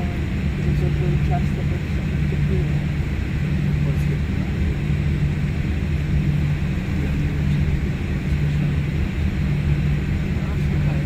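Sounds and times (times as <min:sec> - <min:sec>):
jet engines low drone in cabin: 0:00.0 - 0:11.0.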